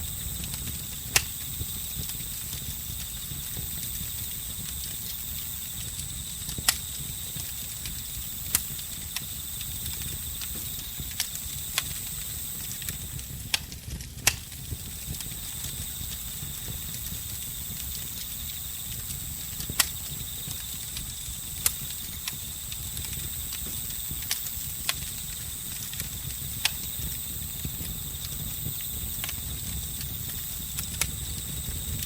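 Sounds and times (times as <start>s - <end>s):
crickets and insects trilling: 0.0s - 13.4s, 14.5s - 32.0s
campfire crackling and popping: 0.0s - 32.0s.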